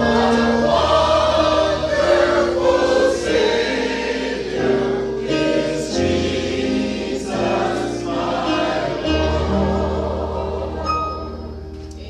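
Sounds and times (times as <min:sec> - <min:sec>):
vocal group singing a hymn: 0:00.0 - 0:11.7.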